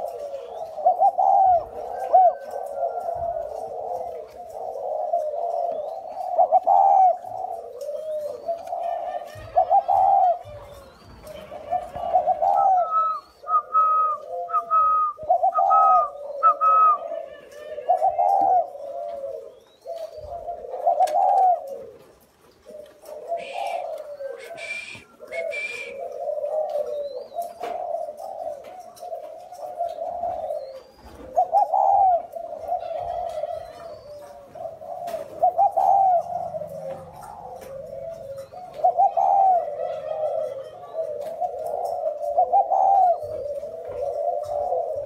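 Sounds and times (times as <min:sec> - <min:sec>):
doves cooing: 0:00.0 - 0:45.0.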